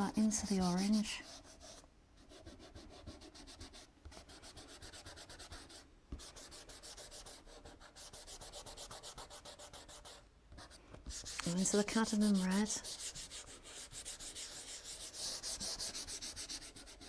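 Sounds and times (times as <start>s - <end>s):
pastel rubbing on paper: 0.2s - 17.0s.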